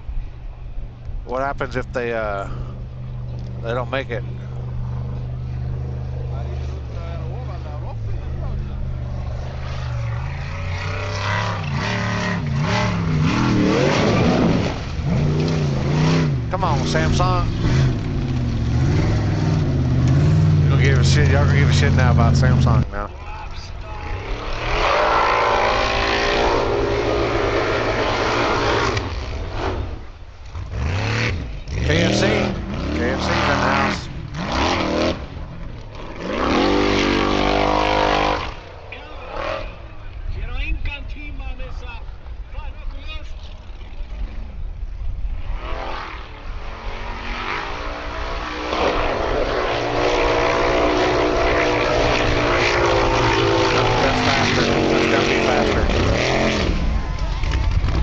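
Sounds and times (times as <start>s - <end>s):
engine running at high revs: 1.4s - 23.1s, 23.9s - 40.2s, 43.6s - 58.0s.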